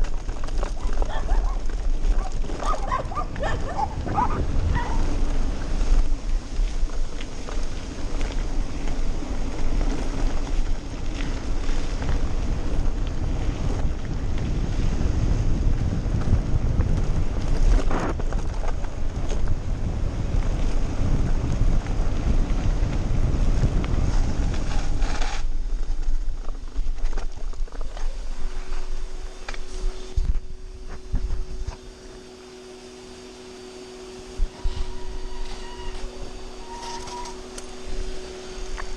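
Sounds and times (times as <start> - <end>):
bike rattling over rough trail: 0.0 - 31.8, 34.3 - 38.9
wind rushing over microphone: 0.0 - 31.8.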